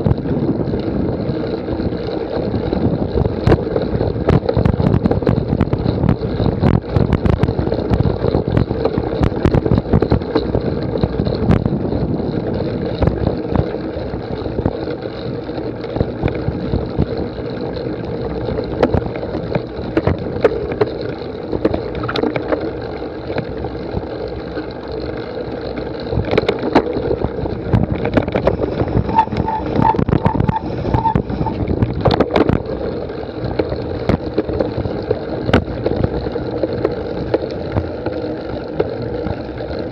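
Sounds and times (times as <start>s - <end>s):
bike rattling over rough ground: 0.0s - 39.9s
wind buffeting: 0.0s - 39.9s.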